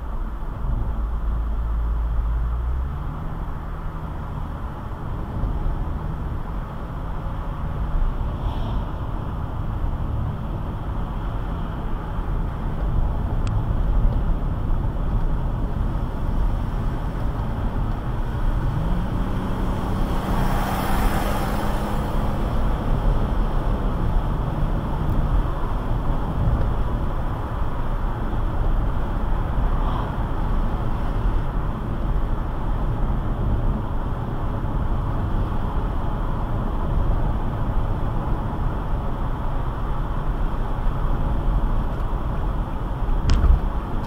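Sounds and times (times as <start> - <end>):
car engine hum: 0.0 - 44.0
road and tyre noise: 0.0 - 44.0
rush of passing vehicle: 1.5 - 44.0.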